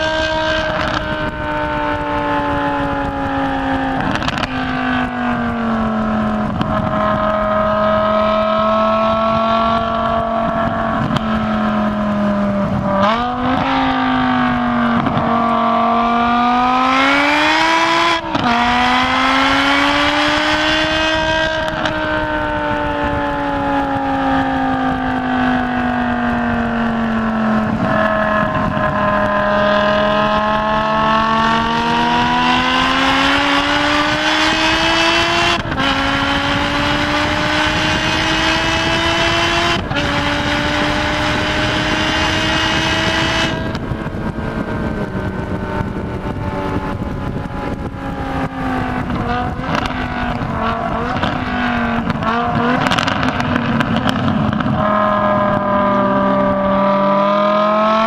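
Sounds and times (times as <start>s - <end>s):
car engine pulling hard: 0.0s - 58.0s
wind and road noise: 0.0s - 58.0s.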